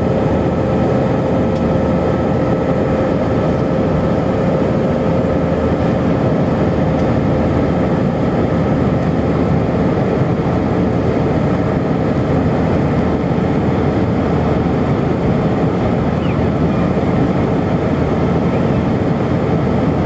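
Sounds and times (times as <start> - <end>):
airliner cabin roar: 0.0 - 20.0.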